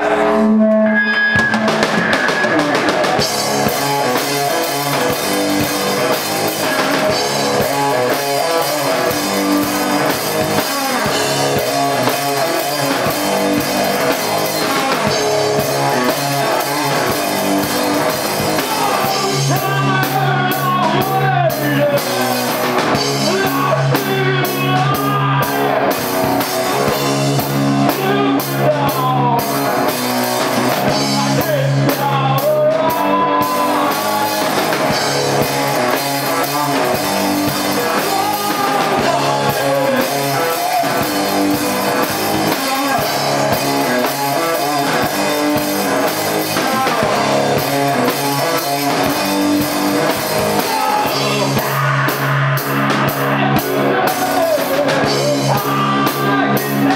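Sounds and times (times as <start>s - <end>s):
person singing: 0.0s - 26.0s, 26.7s - 56.9s
live rock band playing: 0.0s - 56.9s.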